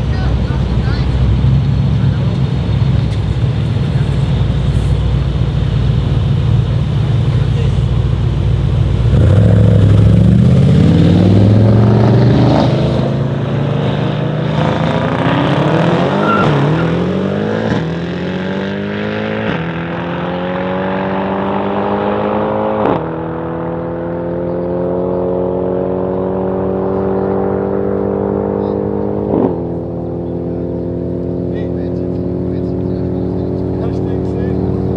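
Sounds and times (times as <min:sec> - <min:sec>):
car accelerating hard with upshifts: 0:00.0 - 0:34.9.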